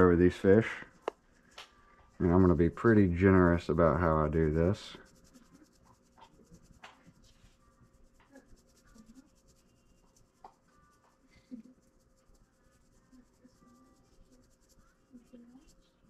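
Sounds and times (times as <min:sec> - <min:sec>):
hands rubbing seasoning on fish: 0:00.0 - 0:16.0.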